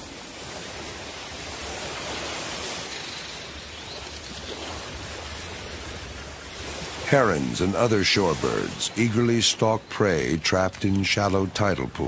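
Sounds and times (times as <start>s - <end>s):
surf washing over reef: 0.0s - 12.0s.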